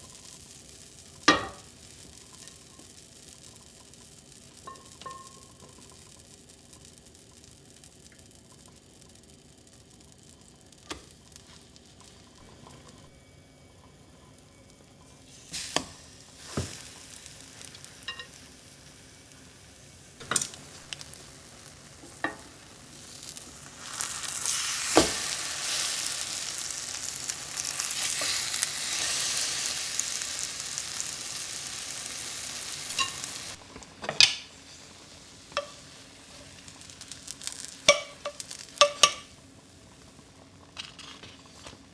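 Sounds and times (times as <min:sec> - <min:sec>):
steady hissing: 0:00.0 - 0:40.6.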